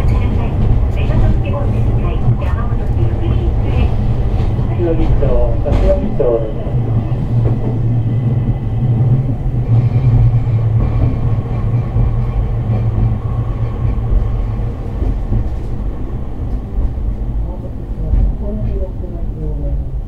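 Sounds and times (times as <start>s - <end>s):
streetcar wheels rumbling: 0.0s - 20.0s.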